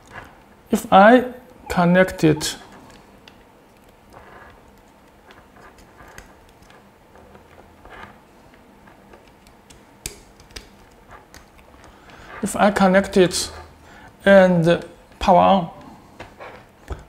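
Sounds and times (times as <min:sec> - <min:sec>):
plastic rubbing: 0:00.0 - 0:00.8, 0:02.6 - 0:17.0.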